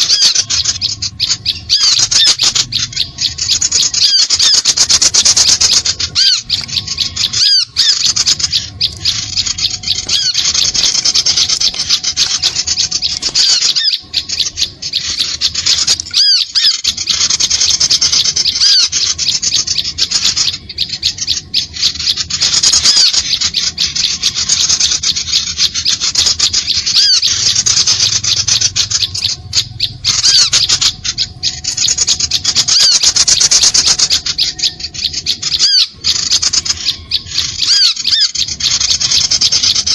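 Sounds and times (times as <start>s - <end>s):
bird chirps: 0.0s - 39.9s
small birds chattering trill: 0.0s - 39.9s.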